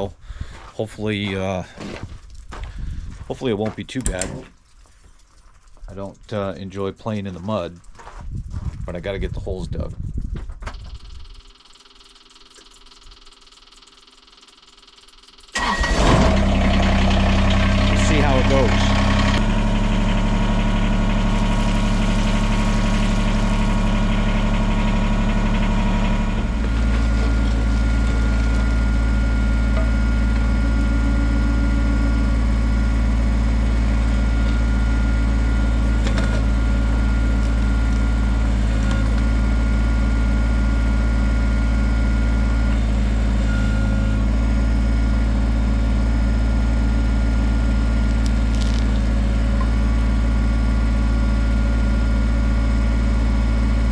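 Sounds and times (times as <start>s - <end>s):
tractor diesel engine running: 10.7s - 53.9s.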